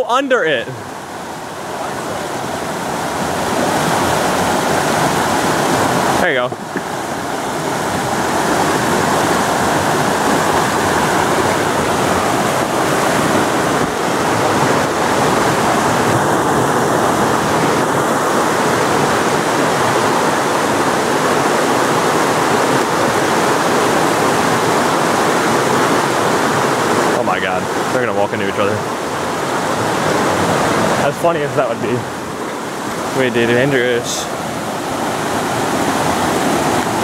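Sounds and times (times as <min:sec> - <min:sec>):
stream water rushing over rocks: 0:00.0 - 0:37.0.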